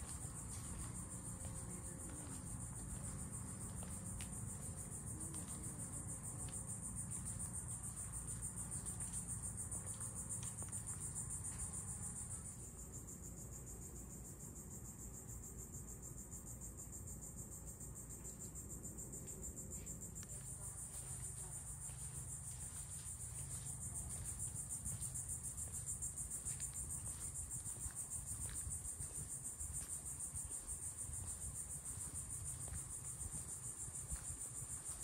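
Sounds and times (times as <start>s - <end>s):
insects pulsing chorus: 0.0s - 35.0s.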